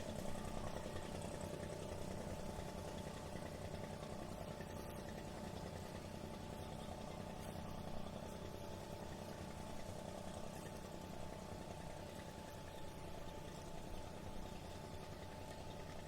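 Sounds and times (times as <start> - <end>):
engine idling: 0.0 - 16.0
harbour and city background noise: 0.0 - 16.0.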